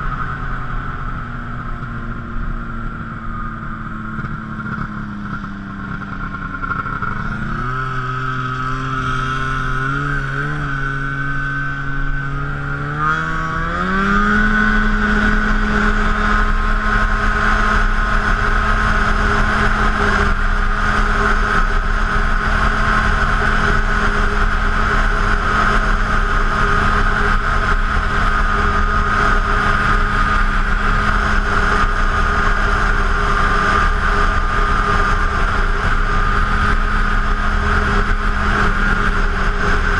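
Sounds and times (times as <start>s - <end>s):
snowmobile engine revving: 4.1s - 39.9s.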